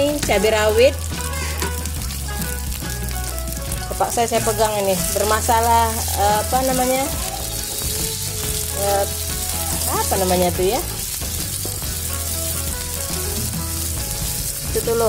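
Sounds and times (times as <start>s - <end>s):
food sizzling in hot oil: 0.0s - 15.0s
spatula stirring in wok: 0.9s - 14.9s.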